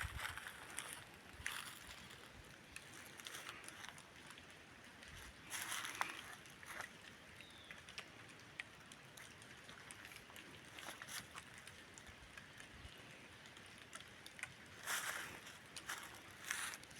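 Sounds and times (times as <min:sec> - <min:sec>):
rustle: 0:00.0 - 0:16.9.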